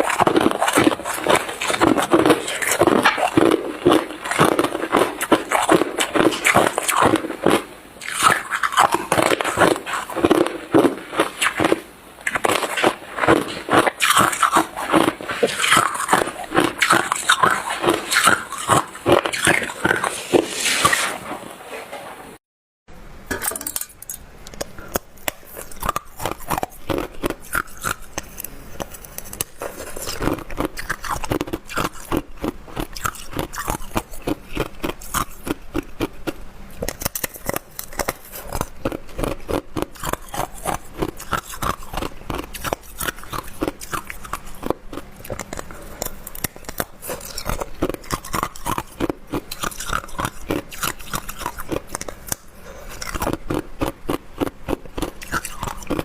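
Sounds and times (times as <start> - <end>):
ice crunching being chewed: 0.0 - 21.0, 24.6 - 56.0.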